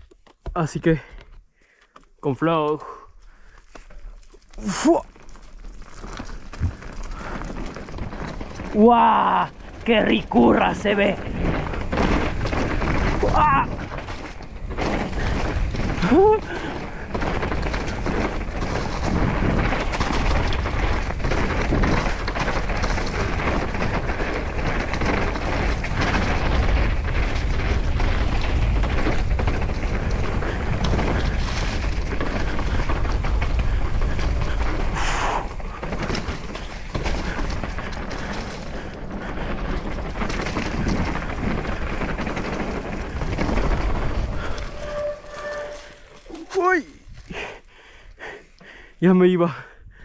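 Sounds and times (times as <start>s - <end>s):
tyre noise on dirt trail: 0.0s - 50.0s
mountain bike knocks and rattles: 3.7s - 47.3s.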